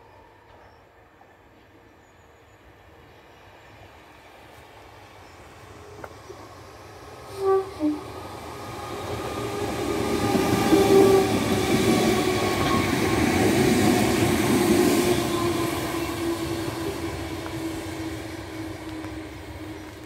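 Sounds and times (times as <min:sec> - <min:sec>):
electric train passing: 0:00.0 - 0:20.0
steady train whine: 0:00.0 - 0:20.0.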